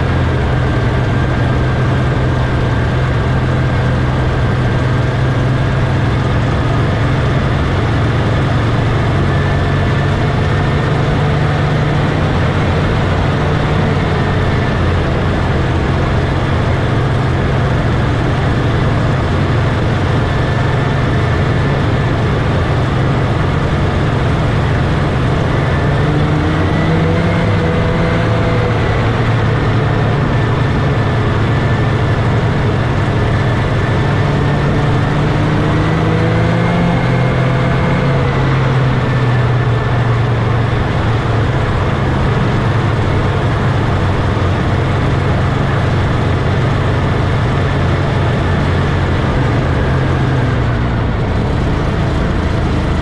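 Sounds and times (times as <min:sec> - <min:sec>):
snowmobile engine running: 0:00.0 - 0:53.0.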